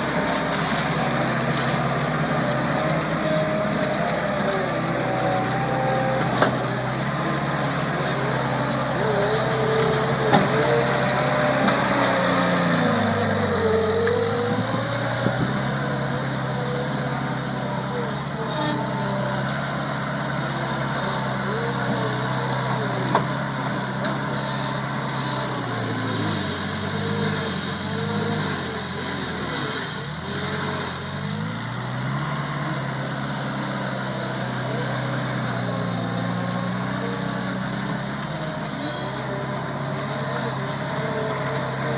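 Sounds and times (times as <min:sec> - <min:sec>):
loader engine running: 0:00.0 - 0:41.9.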